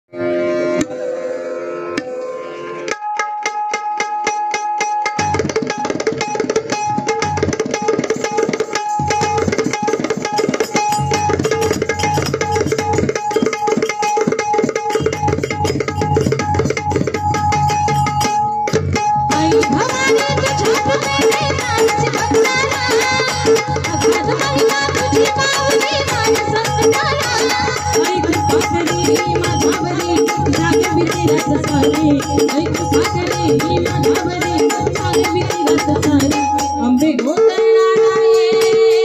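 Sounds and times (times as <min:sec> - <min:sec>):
harmonium melody: 0:00.1 - 0:38.8
tabla strokes: 0:00.2 - 0:39.0.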